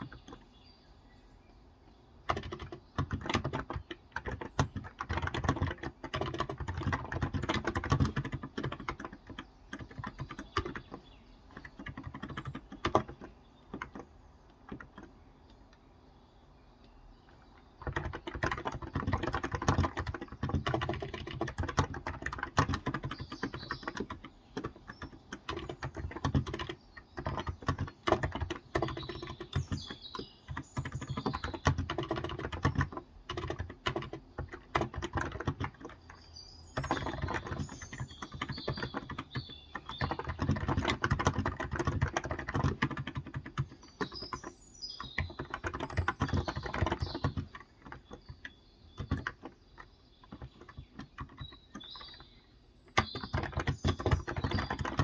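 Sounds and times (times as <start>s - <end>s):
fast typing on keyboard: 0.0s - 0.5s, 2.2s - 15.2s, 17.7s - 55.0s
birds chirping: 0.0s - 55.0s.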